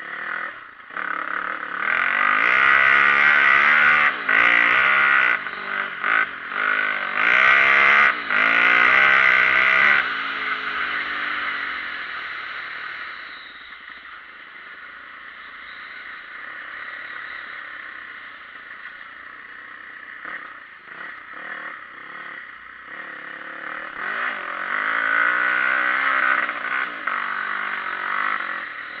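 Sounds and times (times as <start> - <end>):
dirt bike engine: 0.0 - 29.0.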